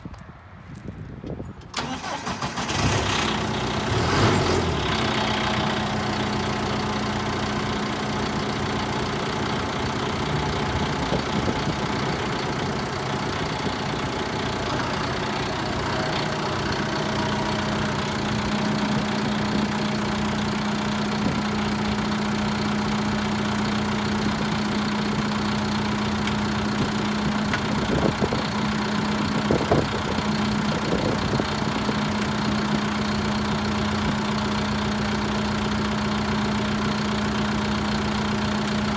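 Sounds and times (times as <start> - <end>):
tractor diesel engine starting and idling: 1.6 - 38.9.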